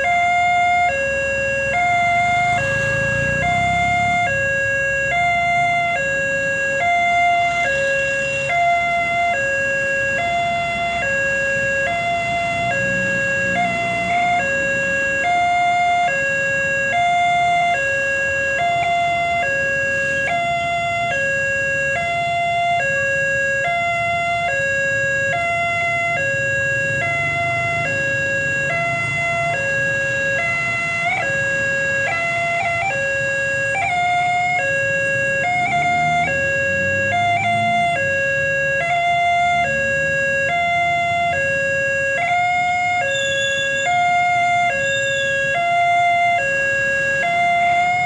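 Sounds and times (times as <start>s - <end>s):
two-tone level crossing siren: 0.0s - 48.0s.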